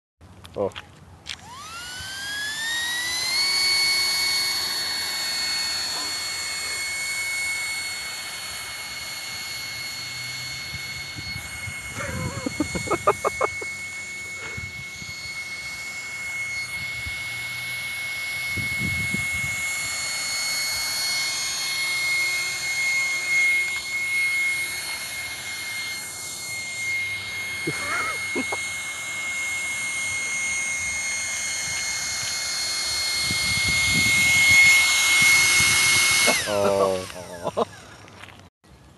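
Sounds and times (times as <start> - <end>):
electric ducted fan whine: 0.2 - 38.9
burst of rapid pulses: 1.5 - 37.2.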